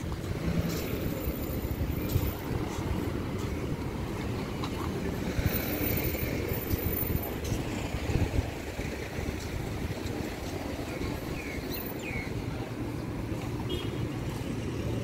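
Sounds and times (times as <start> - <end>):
passing cars and motorbikes: 0.0 - 15.0.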